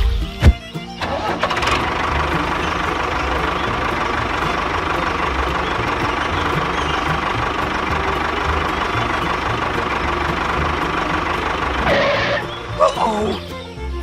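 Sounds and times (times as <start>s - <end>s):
small tractor engine chugging: 0.0s - 14.0s.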